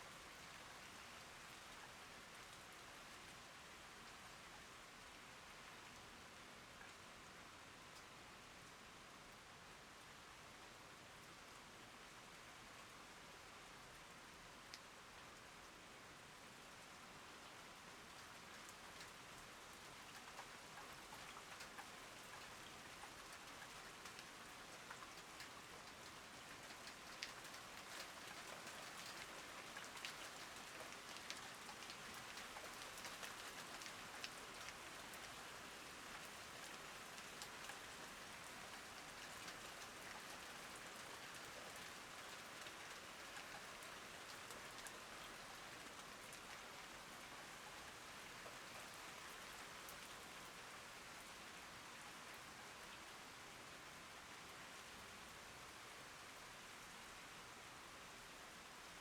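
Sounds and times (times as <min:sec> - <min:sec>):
rain falling on plants: 0:00.0 - 0:59.0.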